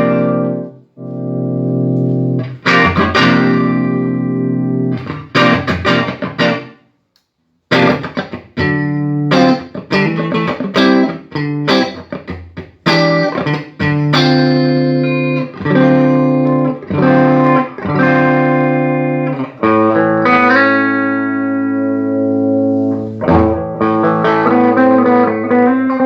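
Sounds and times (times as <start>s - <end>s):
electric guitar chords ringing: 0.0s - 6.8s, 7.7s - 26.0s.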